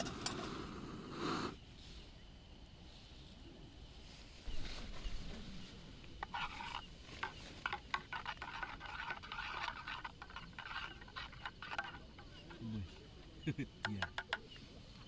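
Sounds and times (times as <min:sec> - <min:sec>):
utensil scraping in a pot: 0:00.0 - 0:01.6, 0:04.5 - 0:15.0.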